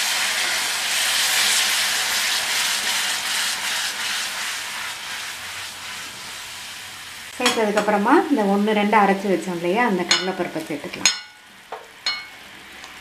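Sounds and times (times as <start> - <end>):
syrup sizzling and bubbling: 0.0 - 13.0.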